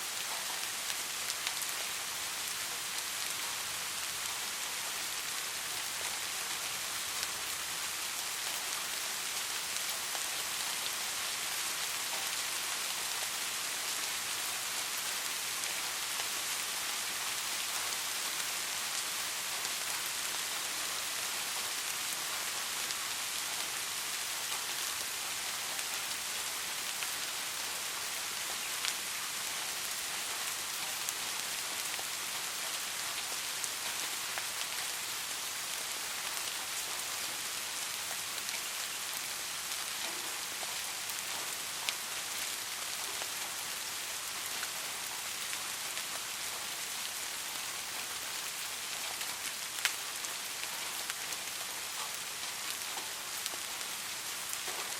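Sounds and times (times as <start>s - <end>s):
soft rain falling: 0.0s - 54.9s.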